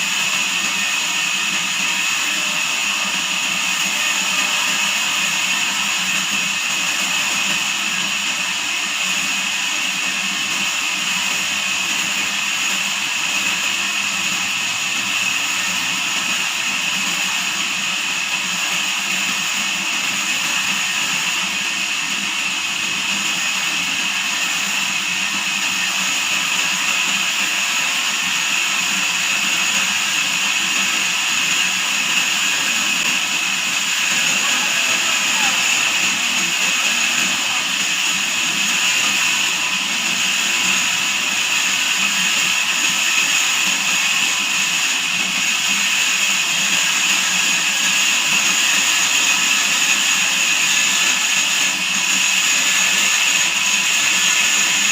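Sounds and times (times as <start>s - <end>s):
band saw running: 0.0s - 54.9s.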